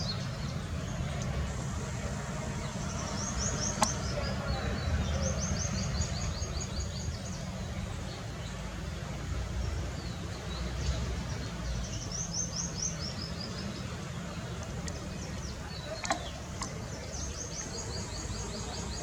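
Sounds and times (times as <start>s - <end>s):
songbird singing: 0.0s - 19.0s
steady low rumble: 0.0s - 19.0s.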